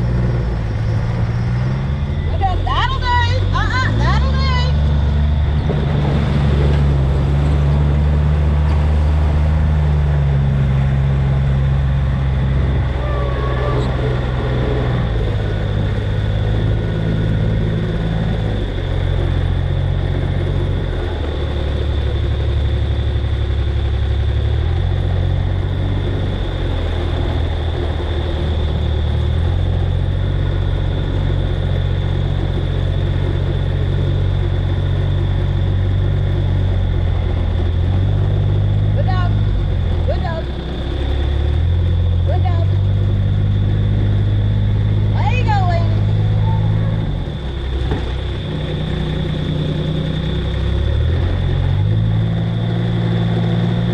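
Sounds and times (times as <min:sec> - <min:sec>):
farm vehicle engine running: 0:00.0 - 0:53.9.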